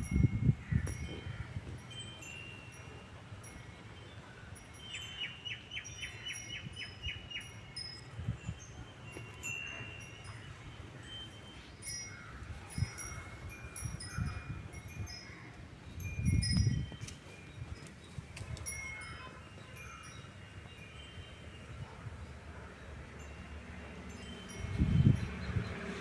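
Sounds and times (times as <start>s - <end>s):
birds chirping: 3.4s - 26.0s.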